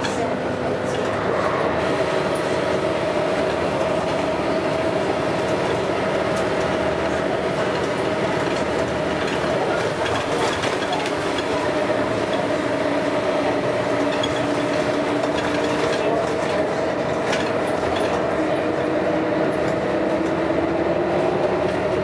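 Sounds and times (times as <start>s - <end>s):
bus body rattling: 0.0s - 22.0s
bus engine running: 0.0s - 22.0s.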